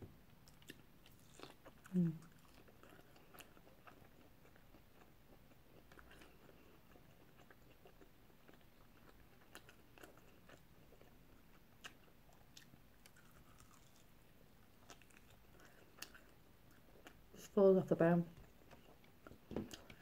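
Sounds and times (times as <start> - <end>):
person chewing: 0.4 - 17.4, 18.4 - 20.0.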